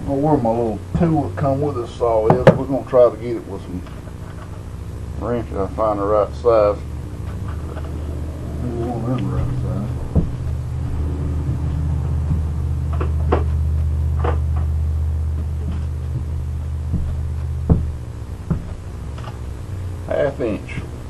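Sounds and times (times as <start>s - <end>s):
low hum: 2.8s - 21.0s.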